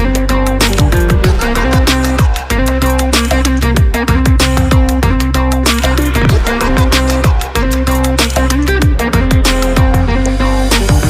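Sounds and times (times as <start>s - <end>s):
deep bass line: 0.0s - 11.0s
fast drum beat: 0.6s - 10.0s
held synth notes: 0.6s - 10.7s.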